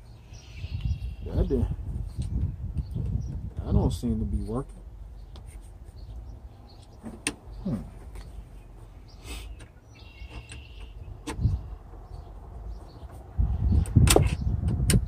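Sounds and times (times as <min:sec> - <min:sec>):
steady low rumble: 0:00.0 - 0:09.2, 0:10.8 - 0:15.0.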